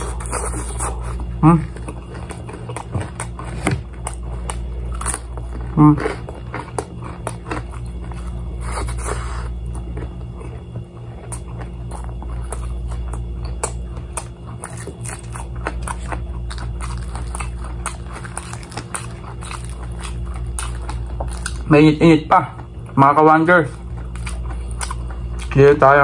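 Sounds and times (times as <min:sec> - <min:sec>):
chewing crispy fried chicken: 0:00.0 - 0:26.0
steady low hum: 0:00.0 - 0:26.0.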